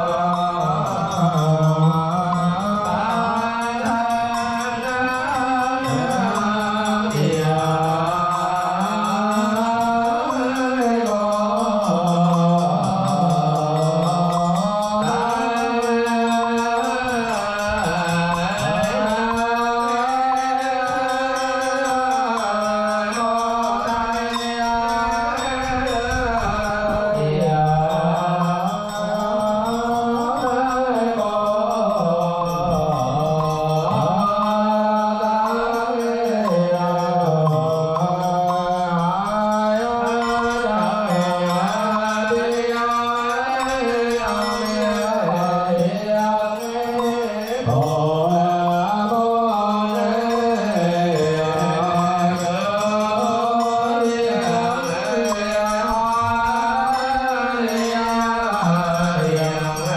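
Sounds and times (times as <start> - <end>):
monks chanting over loudspeakers: 0.0 - 59.9.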